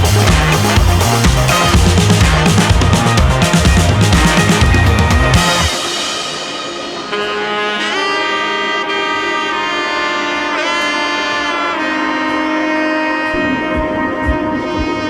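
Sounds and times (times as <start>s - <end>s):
horn-like melody over chords: 0.0s - 15.0s.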